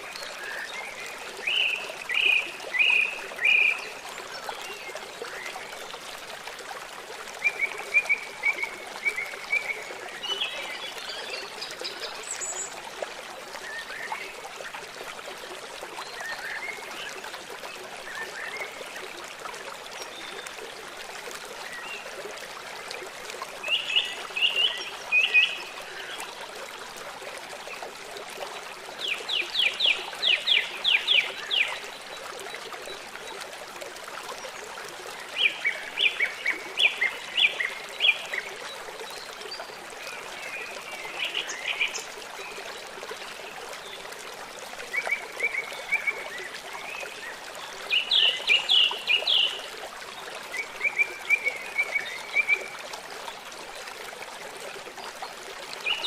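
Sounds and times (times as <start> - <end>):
river water flowing: 0.0 - 56.0.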